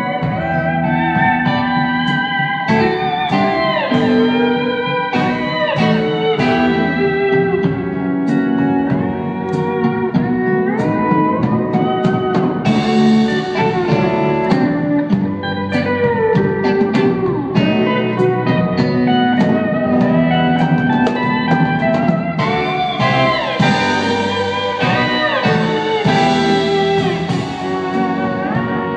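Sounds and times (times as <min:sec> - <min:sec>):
drum kit: 0:00.0 - 0:28.9
electric guitar: 0:00.0 - 0:28.9
pedal steel guitar sliding: 0:00.0 - 0:28.9.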